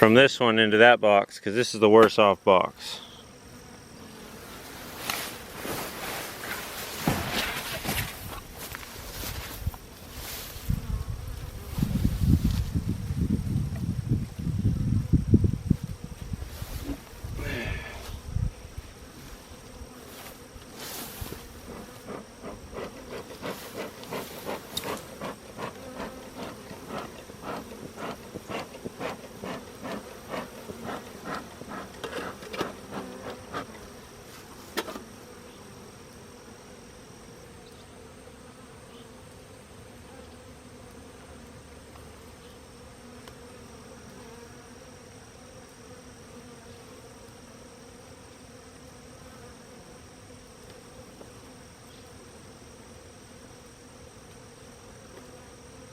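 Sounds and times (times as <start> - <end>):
honeybees buzzing: 1.8 - 55.9.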